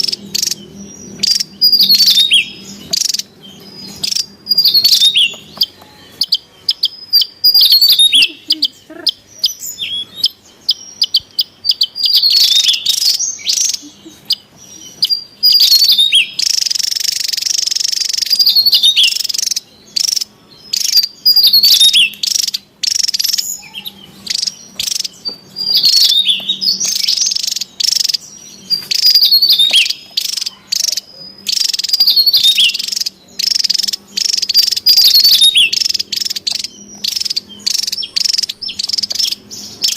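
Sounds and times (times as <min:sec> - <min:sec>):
bird chirping and twittering: 0:00.0 - 0:39.9.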